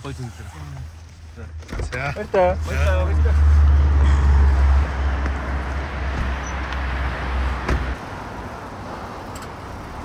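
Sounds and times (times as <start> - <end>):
city street traffic rumble: 0.0 - 10.0.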